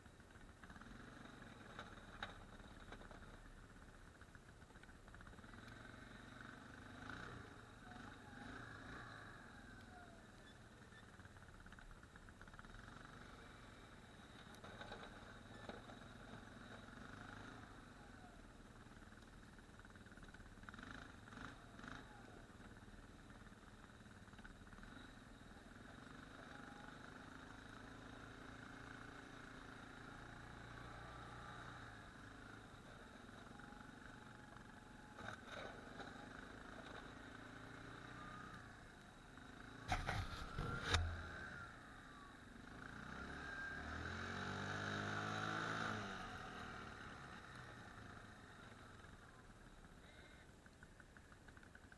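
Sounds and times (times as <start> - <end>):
atv engine idling: 0.0 - 51.9.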